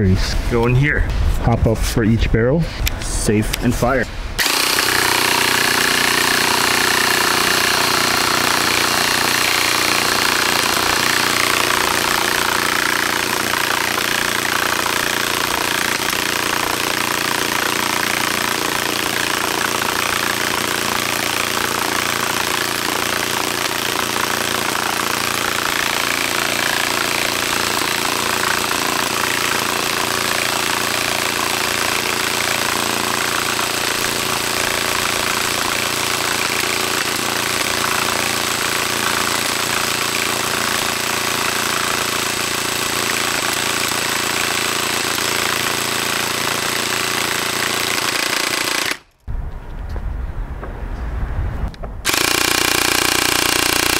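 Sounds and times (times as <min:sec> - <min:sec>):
motor whirring: 0:04.4 - 0:49.0, 0:52.1 - 0:53.9
airsoft minigun firing: 0:04.4 - 0:49.3, 0:52.0 - 0:53.9.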